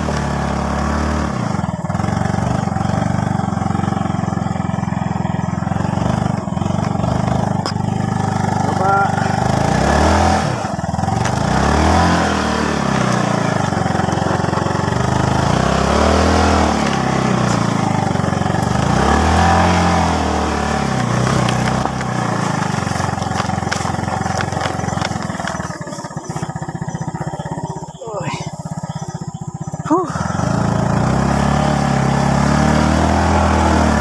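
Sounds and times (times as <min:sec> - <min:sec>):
small motorcycle engine revving: 0:00.0 - 0:34.0.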